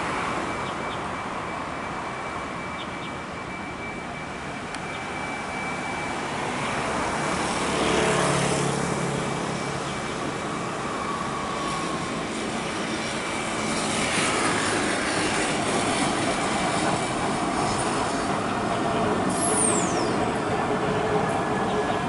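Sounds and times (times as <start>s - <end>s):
street traffic noise: 0.0s - 22.0s.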